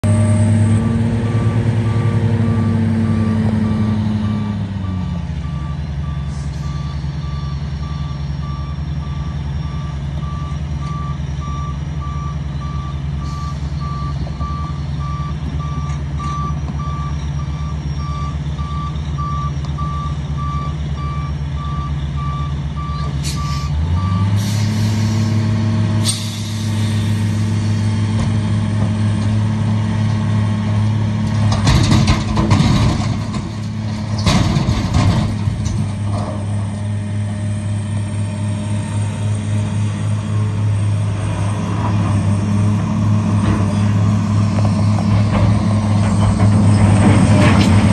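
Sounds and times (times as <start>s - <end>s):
heavy diesel engines droning: 0.0s - 47.9s.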